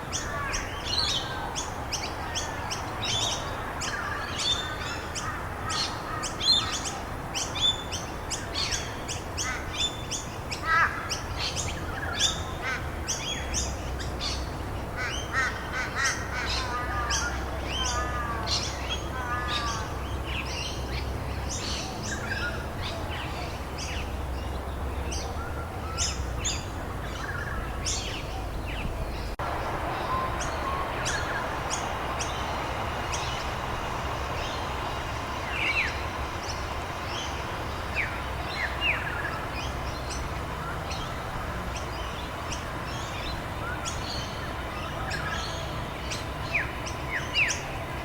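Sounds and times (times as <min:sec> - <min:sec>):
birds chirping and calling: 0:00.0 - 0:47.9
background hiss: 0:00.0 - 0:48.0.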